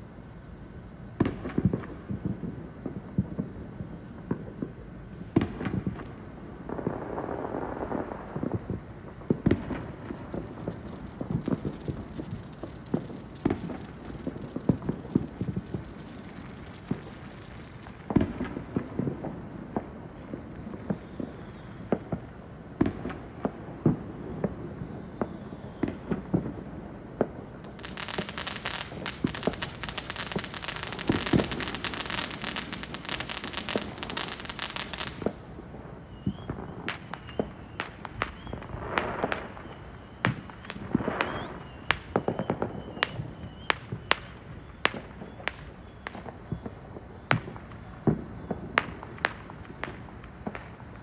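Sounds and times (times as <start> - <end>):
firecrackers crackling: 0.0 - 51.0
firework bangs: 1.2 - 51.0.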